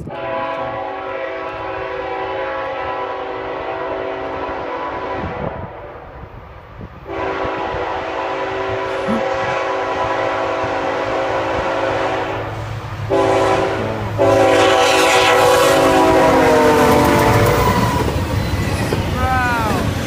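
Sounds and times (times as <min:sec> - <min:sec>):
locomotive air horn chord: 0:00.0 - 0:06.0, 0:07.1 - 0:18.0
low rumble of train: 0:00.0 - 0:20.0.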